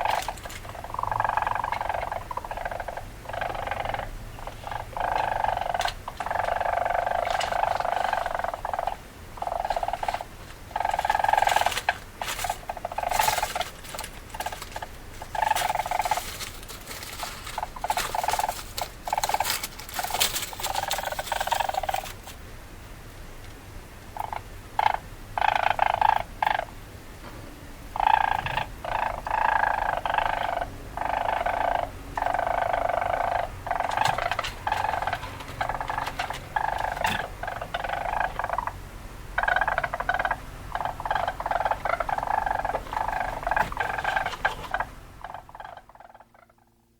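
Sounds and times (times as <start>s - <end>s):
weasel chattering: 0.0s - 22.2s, 24.2s - 26.7s, 28.0s - 38.8s, 39.4s - 46.6s.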